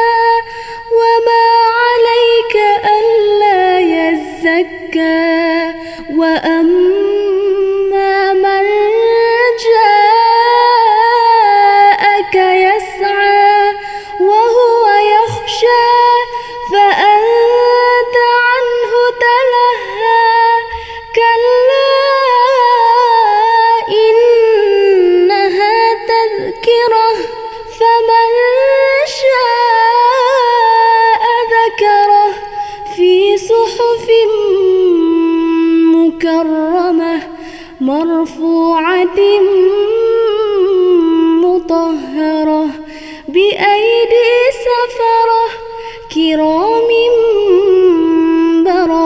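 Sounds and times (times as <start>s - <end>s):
woman reciting melodically: 0.0s - 49.0s.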